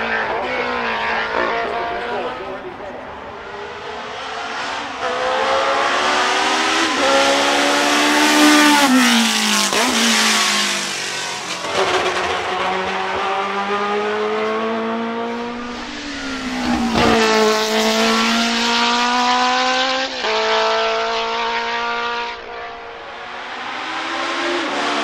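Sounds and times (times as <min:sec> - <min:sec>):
racing car engine passing: 0:00.0 - 0:25.0.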